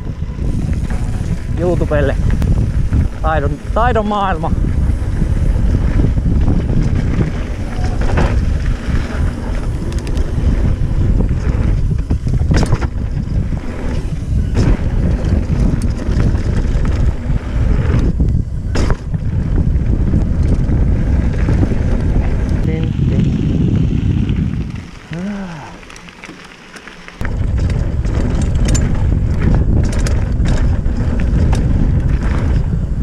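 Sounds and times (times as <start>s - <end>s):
wind buffeting microphone: 0.0s - 26.1s, 27.2s - 33.0s
bike clacking over bumps: 0.0s - 33.0s
bike tyres rolling on gravel: 0.0s - 33.0s.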